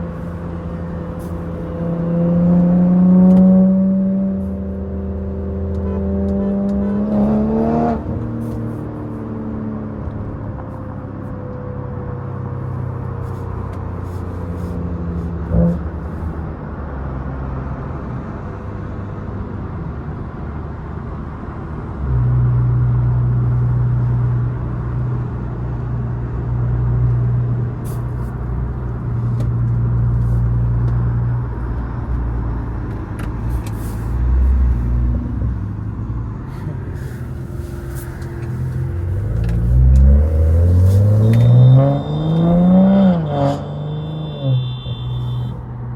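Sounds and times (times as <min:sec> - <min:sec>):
car engine droning: 0:00.0 - 0:19.2, 0:21.4 - 0:45.9.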